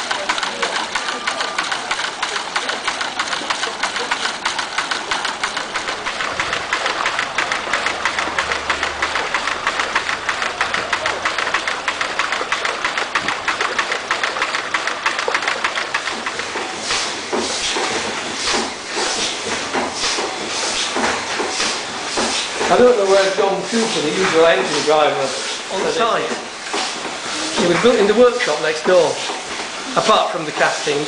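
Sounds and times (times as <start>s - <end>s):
small steam engines clattering: 0.0s - 31.0s
steam hissing: 0.0s - 31.0s.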